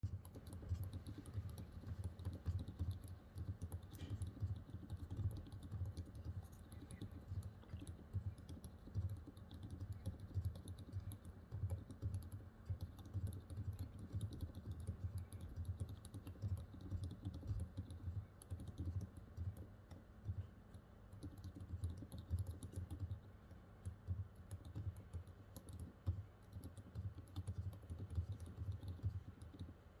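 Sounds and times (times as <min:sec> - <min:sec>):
muted keyboard typing thocks: 0:00.0 - 0:20.4, 0:21.1 - 0:23.2, 0:23.8 - 0:29.8.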